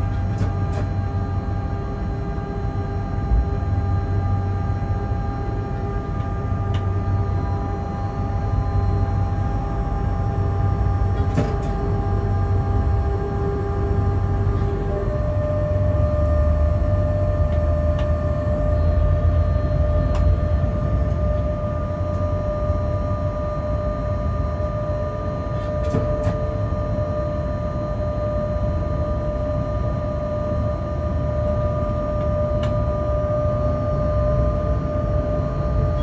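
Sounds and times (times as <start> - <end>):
whining tones from locomotive: 0.0 - 36.0.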